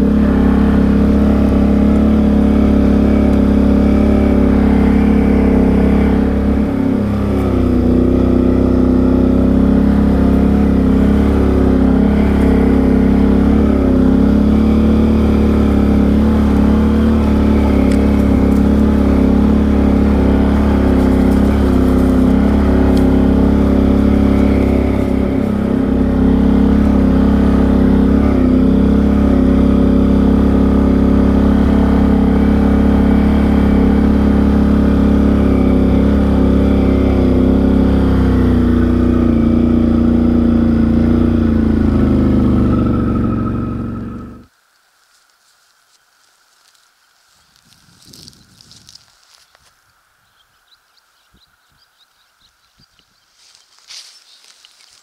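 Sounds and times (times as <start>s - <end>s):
atv engine running: 0.0s - 44.5s, 46.2s - 49.6s.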